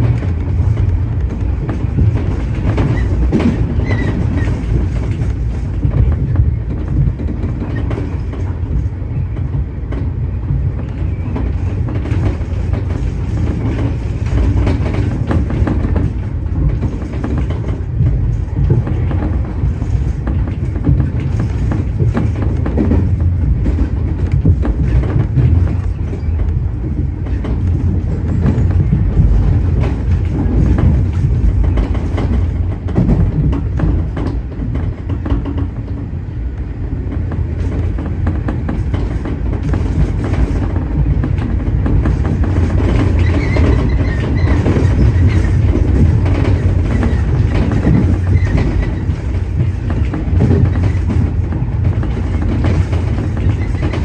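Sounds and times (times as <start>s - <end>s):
clickety-clack of rail joints: 0.0s - 54.0s
train wheels rumbling on rail: 0.0s - 54.0s.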